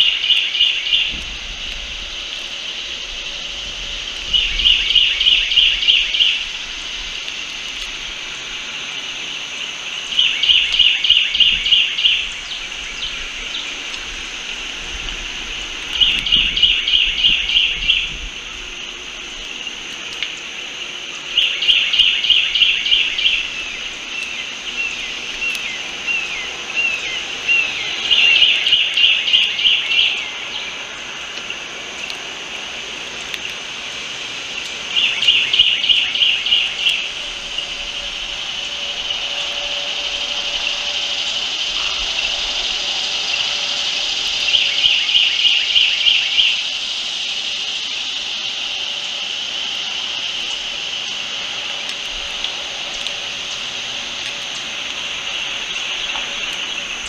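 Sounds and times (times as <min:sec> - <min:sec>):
songbird singing: 0:00.0 - 0:57.0
steady high hiss: 0:00.0 - 0:57.0.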